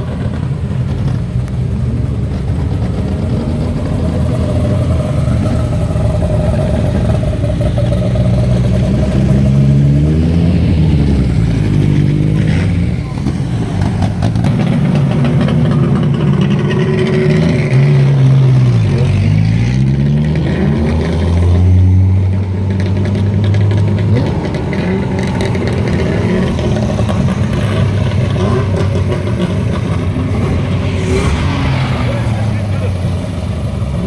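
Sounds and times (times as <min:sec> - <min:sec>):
racing car engines at low revs: 0:00.0 - 0:34.0.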